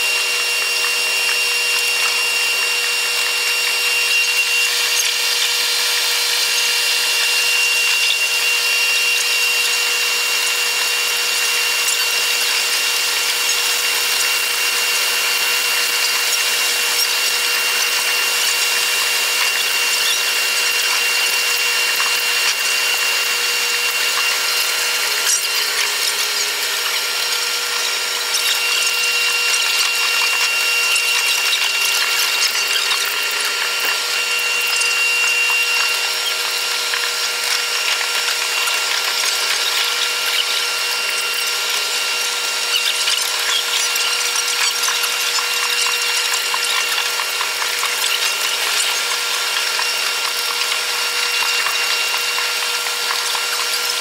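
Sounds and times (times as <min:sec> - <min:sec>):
steady whining tones: 0:00.0 - 0:54.0.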